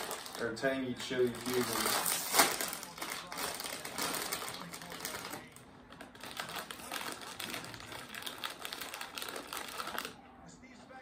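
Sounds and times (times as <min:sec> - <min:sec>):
plastic snack bag crinkling: 0:00.0 - 0:10.2.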